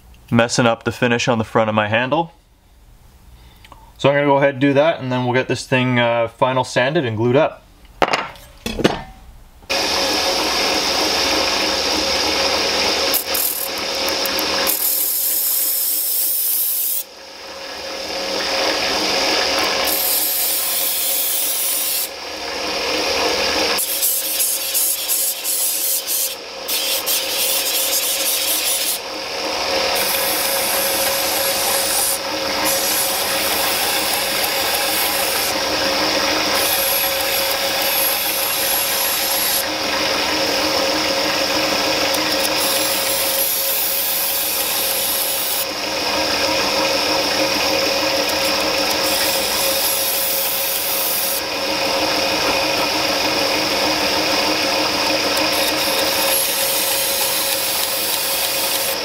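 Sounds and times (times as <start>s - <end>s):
belt grinder grinding steel blade: 9.7s - 17.1s, 18.4s - 59.0s.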